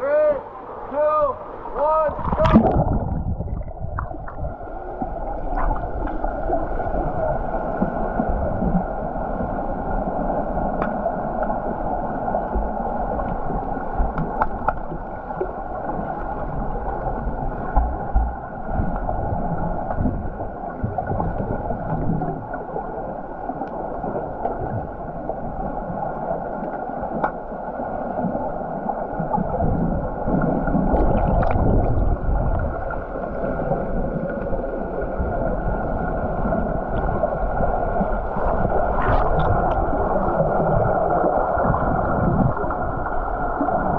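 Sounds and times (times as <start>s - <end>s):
underwater rush of water: 0.0s - 43.9s.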